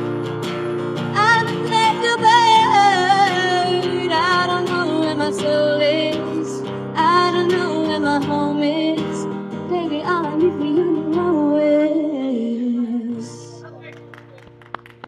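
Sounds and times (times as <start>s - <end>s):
acoustic guitar: 0.0s - 15.0s
woman singing: 1.1s - 13.6s.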